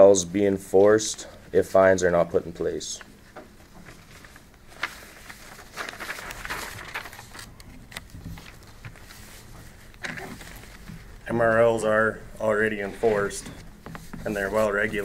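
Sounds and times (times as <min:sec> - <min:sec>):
faint room hum: 0:00.0 - 0:15.0
paper rustling: 0:03.0 - 0:15.0.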